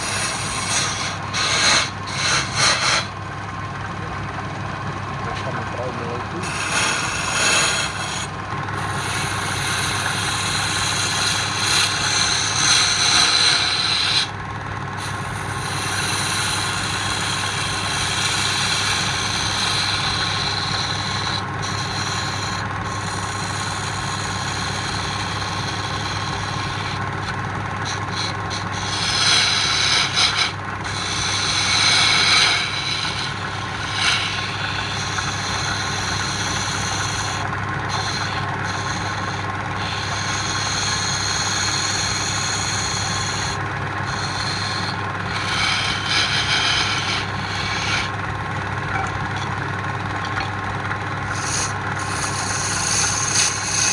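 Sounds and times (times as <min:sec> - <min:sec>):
lathe motor hum: 0:00.0 - 0:53.9
tool cutting spinning wood: 0:00.0 - 0:53.9.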